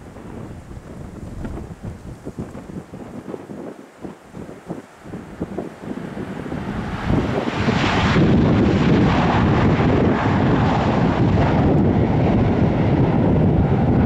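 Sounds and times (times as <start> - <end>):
jet engines roaring: 0.0 - 14.0
wind buffeting microphone: 0.0 - 14.0.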